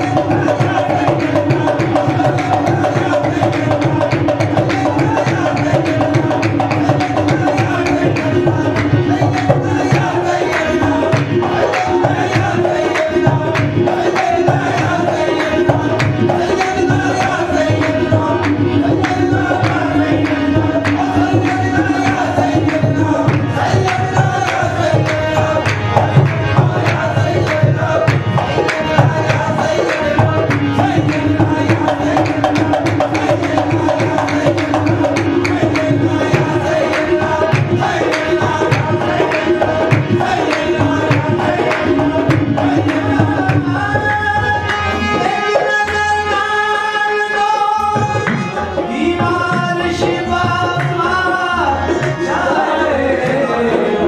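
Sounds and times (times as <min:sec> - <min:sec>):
fast hand-drum rhythm: 0:00.0 - 0:44.6, 0:47.8 - 0:54.0
harmoniums playing melody: 0:00.0 - 0:54.0.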